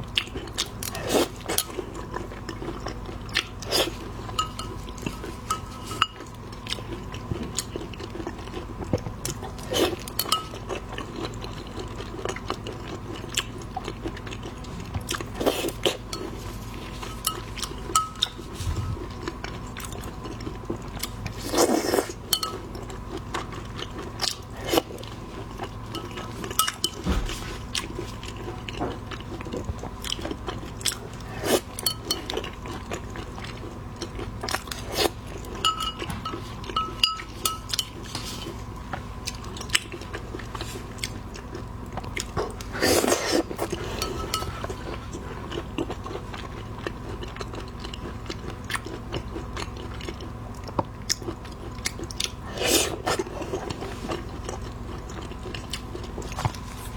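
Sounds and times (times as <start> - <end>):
seafood crunching and chewing: 0.0 - 56.9.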